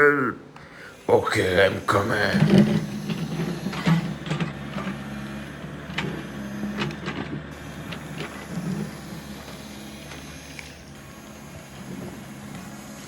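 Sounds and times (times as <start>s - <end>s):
toy electric motors whirring: 0.9s - 13.0s.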